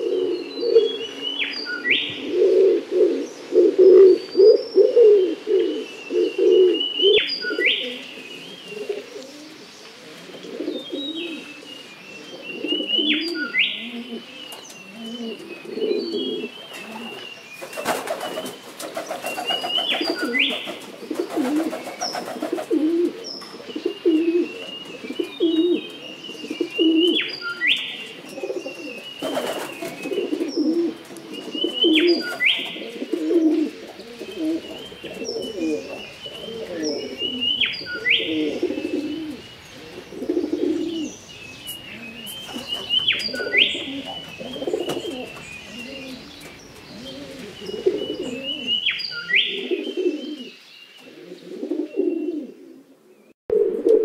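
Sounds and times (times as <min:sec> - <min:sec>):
wood pigeon cooing: 0:00.0 - 0:54.0
small bird singing: 0:03.1 - 0:52.5.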